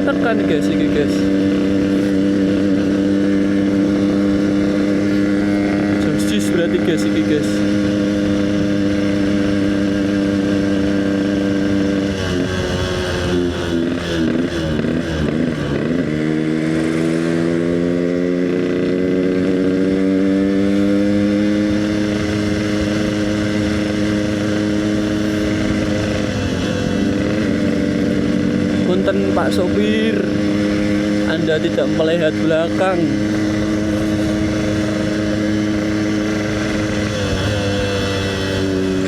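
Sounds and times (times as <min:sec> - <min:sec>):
two-stroke motorcycle engine: 0:00.0 - 0:39.0.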